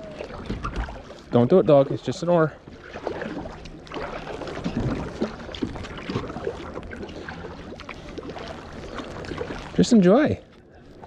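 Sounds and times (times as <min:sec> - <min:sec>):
kayak paddle splashing: 0:00.0 - 0:11.0.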